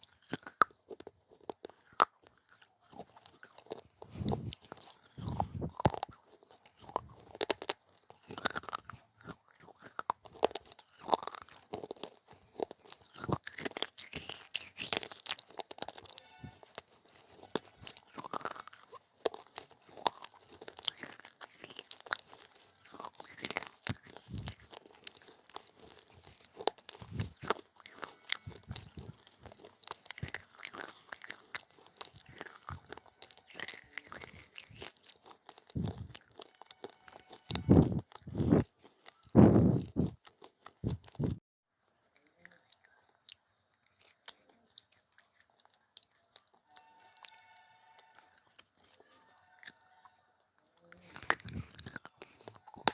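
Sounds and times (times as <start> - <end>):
biting and chewing crunches: 0.0 - 41.4, 42.0 - 50.2, 50.8 - 52.9.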